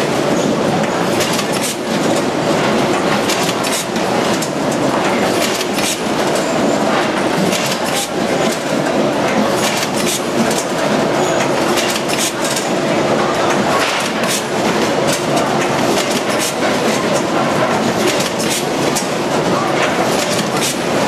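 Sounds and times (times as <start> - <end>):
bagging machine clattering: 0.0 - 21.0.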